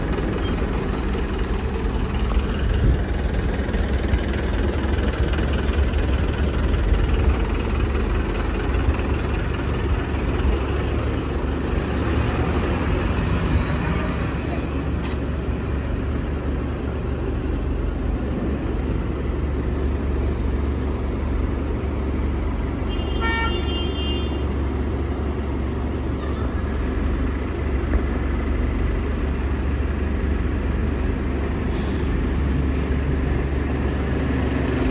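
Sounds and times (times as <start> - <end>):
bus engine and road rumble: 0.0 - 34.9.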